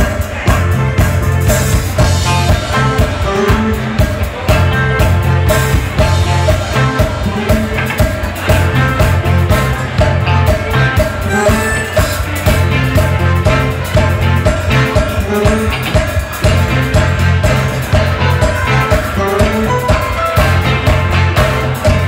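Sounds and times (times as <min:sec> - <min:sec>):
congas: 0:00.0 - 0:22.0
drum kit: 0:00.0 - 0:22.0
electric bass: 0:00.0 - 0:22.0
electric guitars: 0:00.0 - 0:22.0
saxophones: 0:00.0 - 0:22.0.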